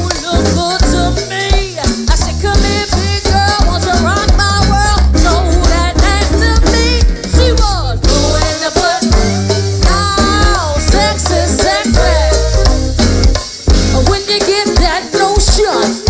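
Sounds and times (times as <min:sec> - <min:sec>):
person singing: 0:00.0 - 0:12.9, 0:13.8 - 0:16.0
heavy bass: 0:00.0 - 0:14.3
drum kit beat: 0:00.0 - 0:16.0
percussion: 0:00.0 - 0:16.0.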